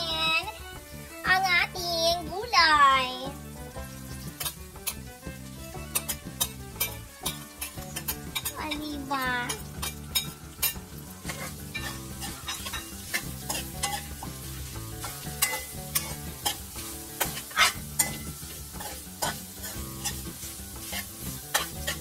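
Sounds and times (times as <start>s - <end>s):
food sizzling in a wok: 0.0s - 22.0s
spatula scraping a wok: 3.5s - 22.0s.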